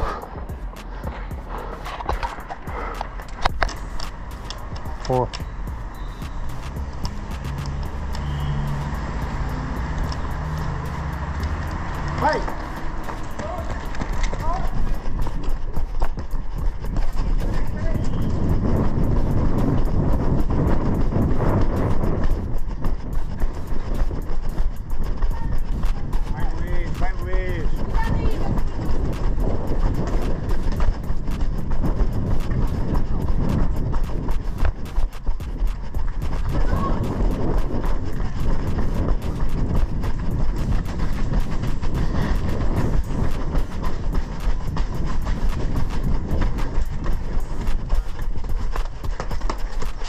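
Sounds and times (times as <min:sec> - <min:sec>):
running footsteps on pavement: 0:00.0 - 0:50.0
wind rumbling on microphone: 0:00.0 - 0:50.0.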